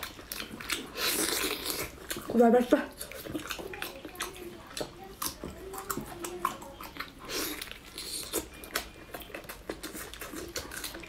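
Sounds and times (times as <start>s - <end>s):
close-up chewing: 0.0s - 11.0s.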